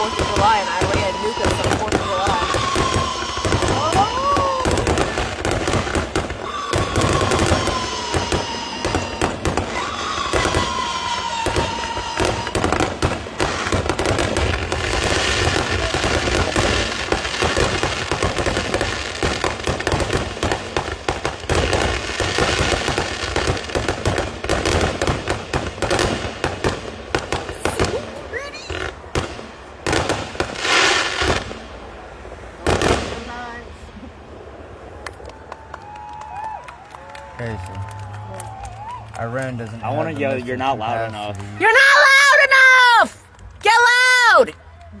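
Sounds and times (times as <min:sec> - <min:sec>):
whistling firework shells: 0:00.0 - 0:44.7
fireworks bangs and crackling: 0:00.0 - 0:45.0.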